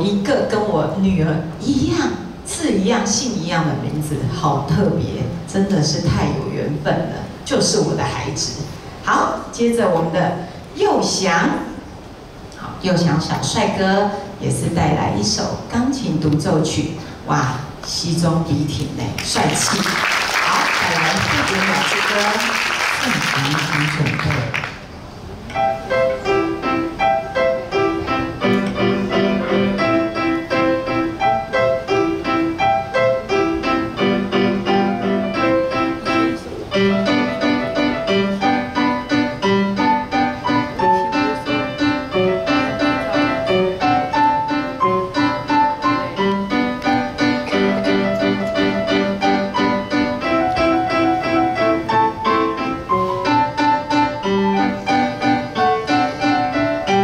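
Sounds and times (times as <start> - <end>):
solo piano piece: 0.0 - 57.0.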